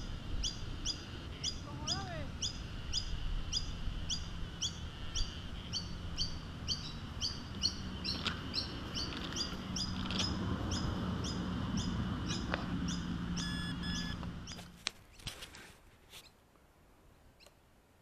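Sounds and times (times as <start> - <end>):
bird chirping: 0.0 - 15.3.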